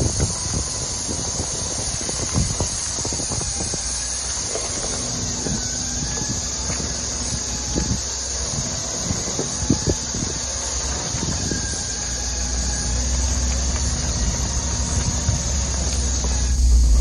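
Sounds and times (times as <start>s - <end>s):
steady high hiss: 0.0s - 17.0s
truck engine at low revs: 0.0s - 17.0s.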